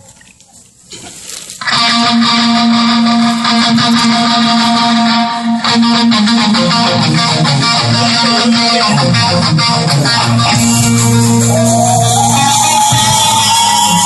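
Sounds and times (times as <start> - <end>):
band with electric guitar and drums: 1.0 - 14.0.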